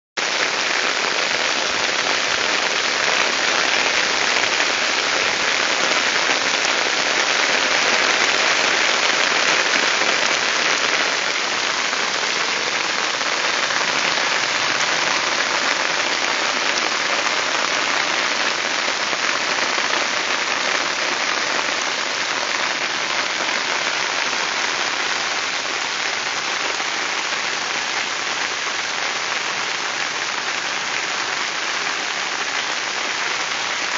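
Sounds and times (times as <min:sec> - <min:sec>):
heavy rain on water: 0:00.2 - 0:33.9.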